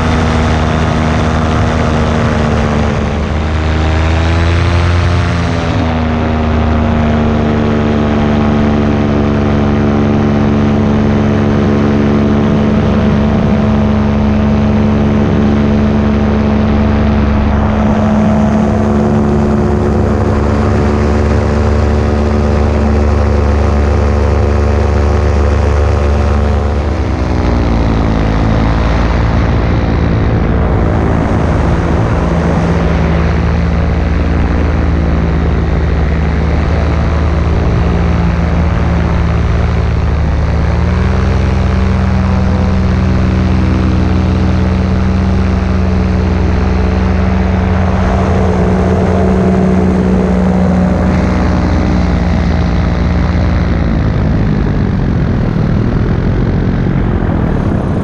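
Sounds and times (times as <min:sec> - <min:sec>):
paramotor engine buzzing: 0:00.0 - 0:58.0.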